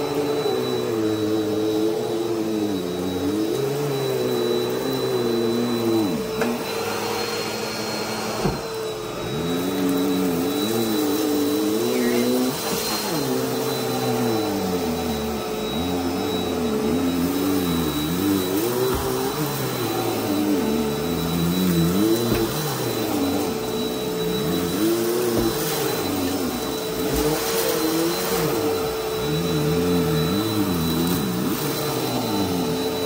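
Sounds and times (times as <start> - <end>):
upright vacuum running on a rug: 0.0 - 33.0.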